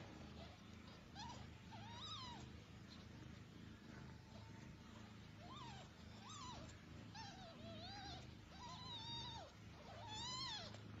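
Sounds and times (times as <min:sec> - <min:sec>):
newborn kittens mewing: 0:00.0 - 0:11.0.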